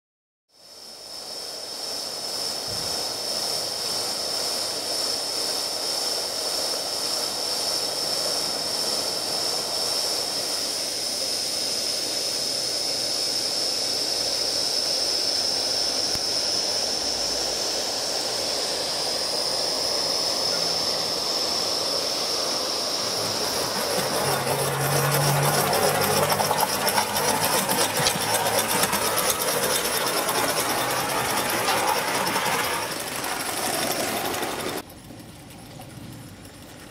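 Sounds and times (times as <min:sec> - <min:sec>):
steam hissing: 0:00.6 - 0:35.5
steam locomotive exhaust chuffs: 0:01.0 - 0:36.9.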